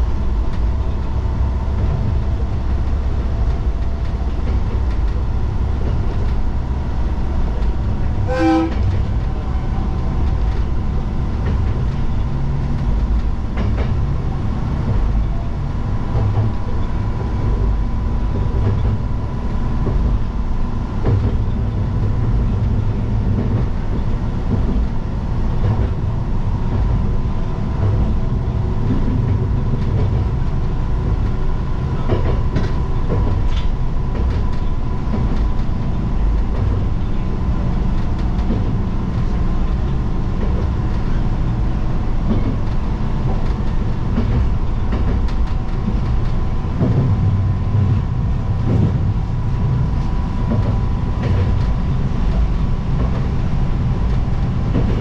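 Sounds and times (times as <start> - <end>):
diesel train rumbling: 0.0 - 55.0
rail-joint clicks: 0.0 - 55.0.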